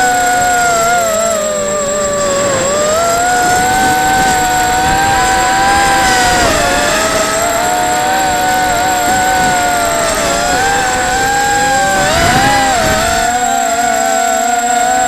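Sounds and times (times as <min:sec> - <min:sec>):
drone motors whining: 0:00.0 - 0:15.0
strong wind rushing: 0:00.6 - 0:14.0.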